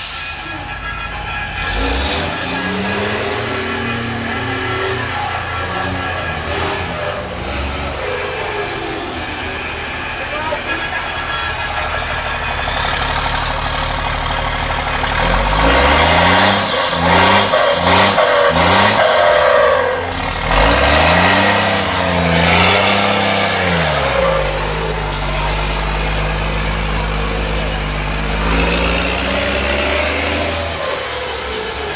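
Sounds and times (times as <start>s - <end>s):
exhaust cracks: 0.0s - 31.9s
vehicle engine revving: 0.0s - 31.9s.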